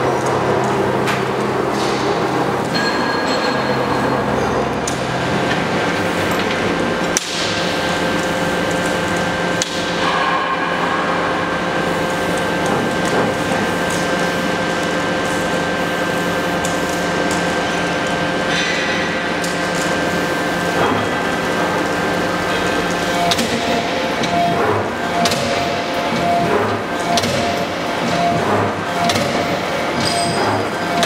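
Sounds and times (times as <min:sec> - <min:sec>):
punch press humming: 0:00.0 - 0:31.0.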